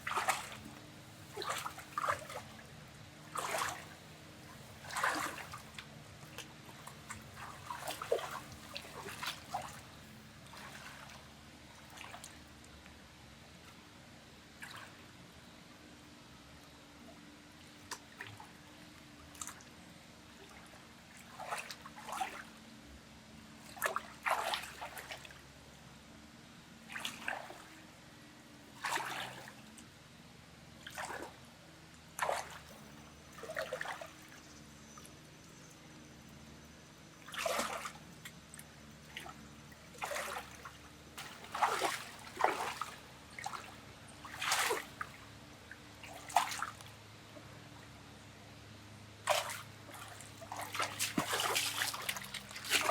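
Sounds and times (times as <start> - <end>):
water splashing and trickling: 0.0 - 12.9, 17.5 - 22.6, 23.5 - 25.6, 26.8 - 47.5, 49.2 - 52.9
faint steady hum: 0.0 - 52.9.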